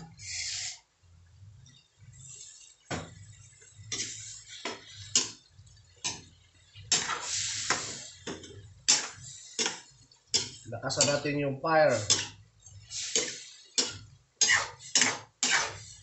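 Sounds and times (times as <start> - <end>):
metal utensil scraping a wok: 2.1 - 11.3, 11.9 - 16.0.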